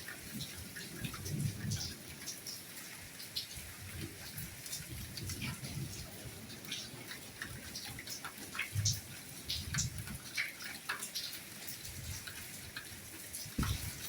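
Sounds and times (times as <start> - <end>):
heavy raindrops landing: 0.0 - 14.0
soft rain falling: 0.0 - 14.0.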